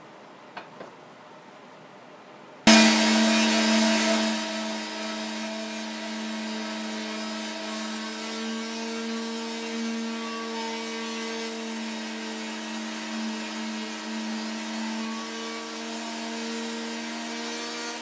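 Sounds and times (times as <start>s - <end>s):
electric sander on wood: 2.7s - 18.0s.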